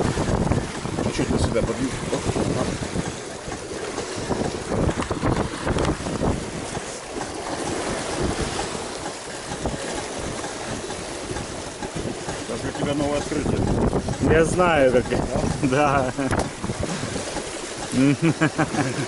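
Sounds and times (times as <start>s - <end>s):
wind buffeting microphone: 0.0s - 18.2s
water rushing along a hull: 0.0s - 19.0s.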